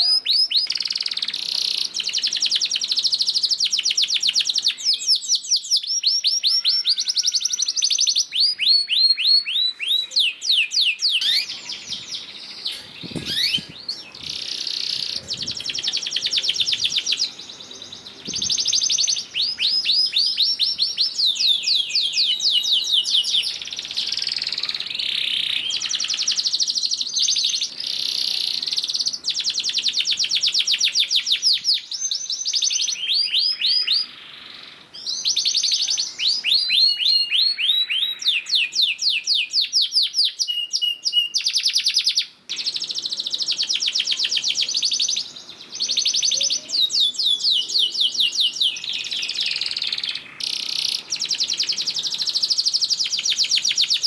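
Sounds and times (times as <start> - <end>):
canary singing fast trills: 0.0 - 54.0.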